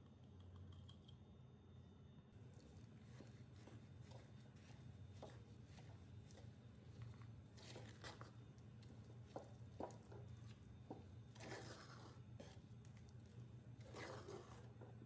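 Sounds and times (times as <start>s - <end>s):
low steady hum: 0.0s - 15.0s
spatula stirring sticky rice: 2.4s - 15.0s.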